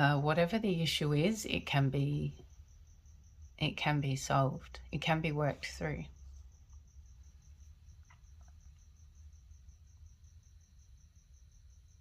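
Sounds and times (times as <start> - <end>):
faint cricket chirping: 0.0 - 12.0
low background hum: 0.0 - 12.0.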